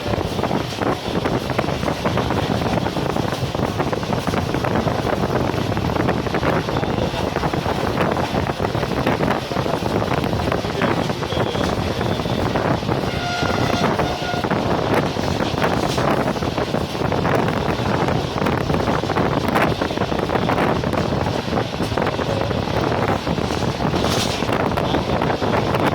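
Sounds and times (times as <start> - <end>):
train wheels clattering on track: 0.0 - 25.9
wind buffeting microphone: 0.0 - 25.9.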